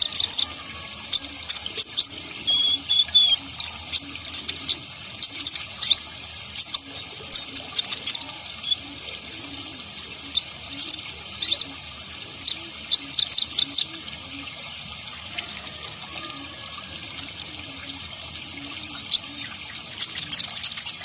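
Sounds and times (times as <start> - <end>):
bird chirping and trilling: 0.0 - 11.7, 12.4 - 14.9, 15.7 - 21.0.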